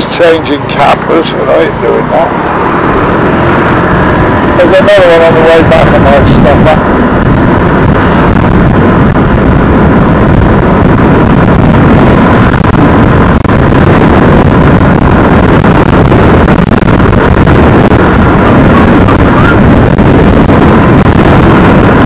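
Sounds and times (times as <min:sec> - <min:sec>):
motorbike engine: 0:00.0 - 0:22.0
road noise: 0:00.0 - 0:22.0
wind rushing over microphone: 0:00.0 - 0:22.0.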